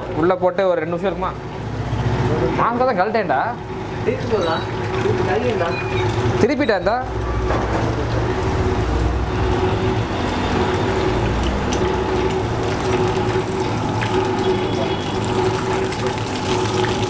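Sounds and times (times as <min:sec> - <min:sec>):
steady hum: 0:01.1 - 0:17.0
food sizzling in hot oil: 0:03.3 - 0:17.0.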